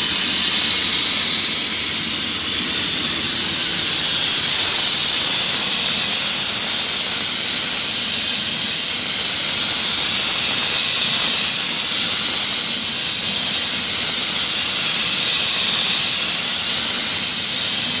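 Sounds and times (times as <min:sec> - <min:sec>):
blasting nozzle hissing: 0:00.0 - 0:18.0.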